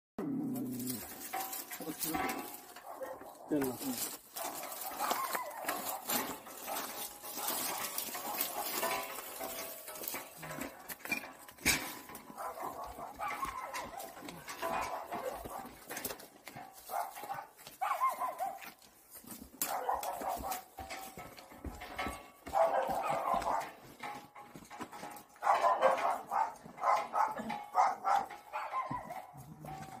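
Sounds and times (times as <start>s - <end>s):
wire dog crate rattling: 0.4s - 30.0s.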